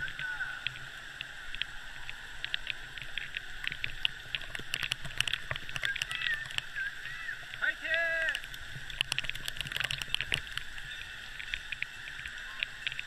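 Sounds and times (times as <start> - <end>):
echoing water park din: 0.0 - 13.0
water drops pattering on camera: 0.0 - 13.0.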